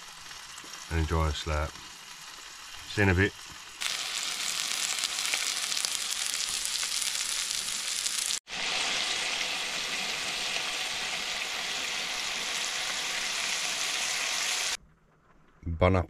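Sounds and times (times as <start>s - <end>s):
meat sizzling: 0.0s - 14.8s.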